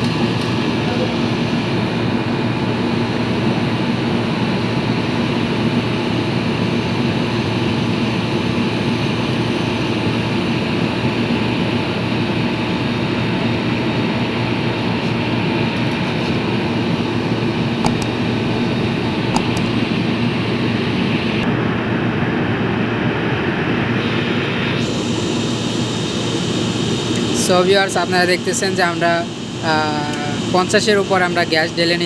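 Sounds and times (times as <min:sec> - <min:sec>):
window air conditioner hum: 0:00.0 - 0:21.5, 0:24.0 - 0:32.0.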